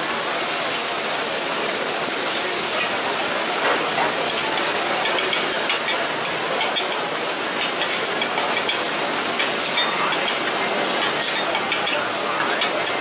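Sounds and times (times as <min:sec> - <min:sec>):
batter sizzling on a griddle: 0:02.1 - 0:13.0.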